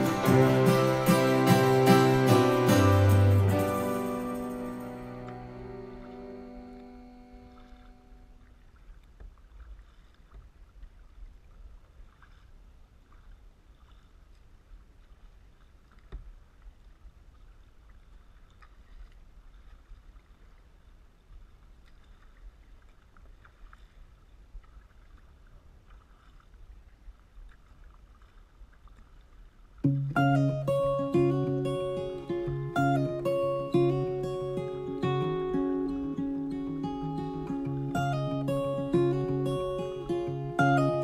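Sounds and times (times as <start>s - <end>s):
paddle strokes splashing: 0.0s - 41.0s
waves slapping plastic hull: 7.4s - 41.0s.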